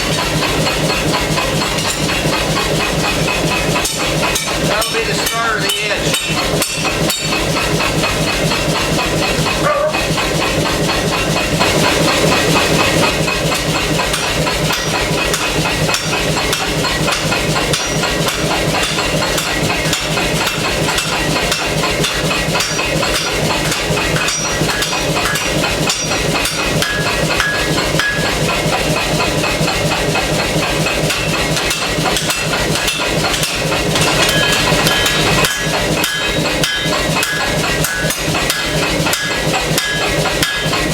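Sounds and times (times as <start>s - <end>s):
air hammer pounding steel: 0.0s - 40.9s.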